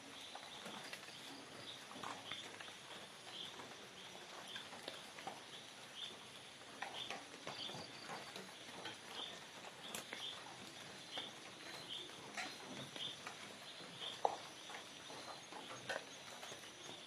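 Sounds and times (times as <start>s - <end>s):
soft ticks and rustles: 0.0s - 17.0s.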